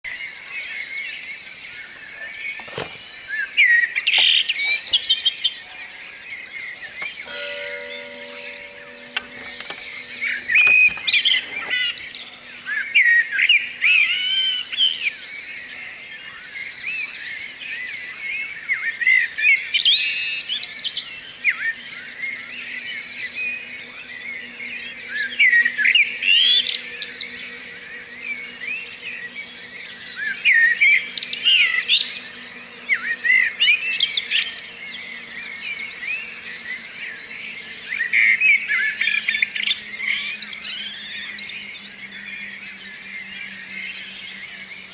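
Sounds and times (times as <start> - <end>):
songbirds singing: 0.1 - 44.9.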